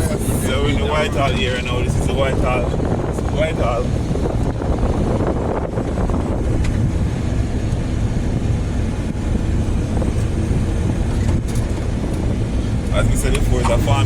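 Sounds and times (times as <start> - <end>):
car engine and tyre rumble: 0.0 - 14.0
wind noise on microphone: 0.0 - 14.0.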